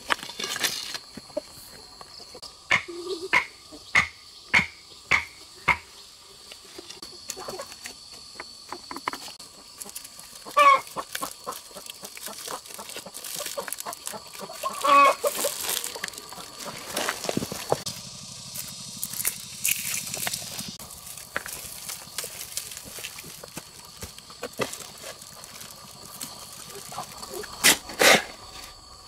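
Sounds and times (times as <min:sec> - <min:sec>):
chickens clucking: 0:01.2 - 0:17.9, 0:20.1 - 0:27.7.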